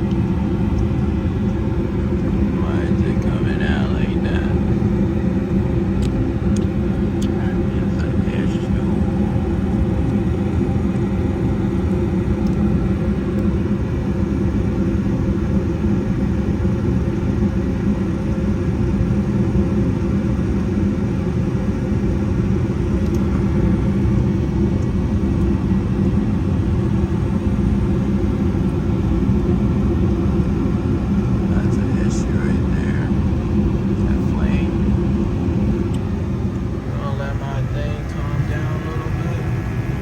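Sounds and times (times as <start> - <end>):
gas furnace running: 0.0 - 40.0.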